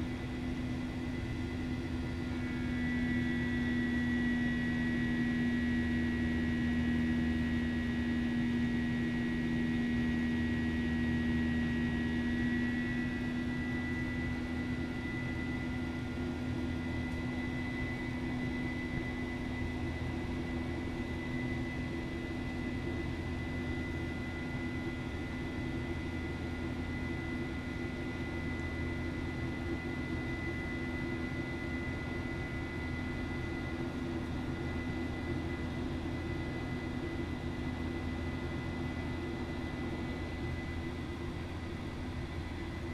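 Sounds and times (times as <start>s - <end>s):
jet engines droning and whining: 0.0s - 42.9s.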